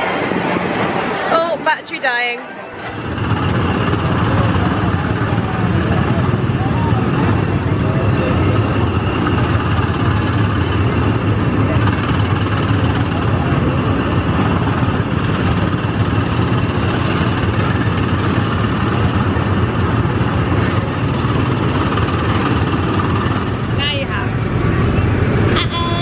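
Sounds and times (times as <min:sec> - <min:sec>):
small petrol engines droning: 0:02.6 - 0:26.0.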